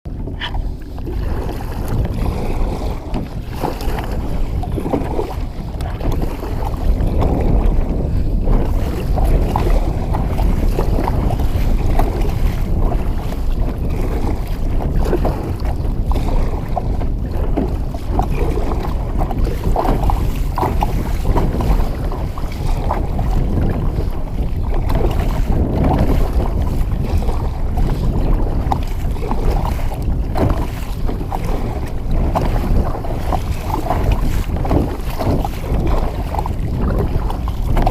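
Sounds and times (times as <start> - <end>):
choppy water splashing: 0.0 - 37.9
wind buffeting microphone: 0.0 - 37.9.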